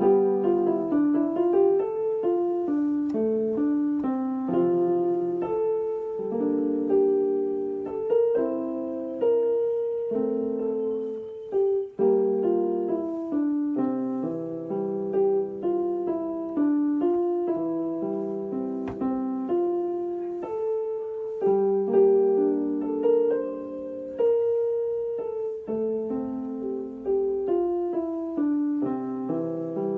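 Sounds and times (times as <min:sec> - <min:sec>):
calm piano music: 0:00.0 - 0:29.9.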